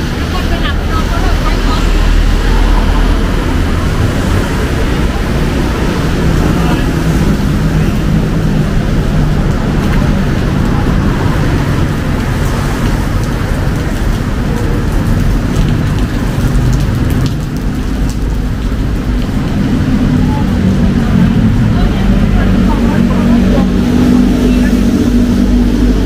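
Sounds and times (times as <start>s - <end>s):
city traffic hum: 0.0s - 26.0s
steady rain: 0.0s - 26.0s.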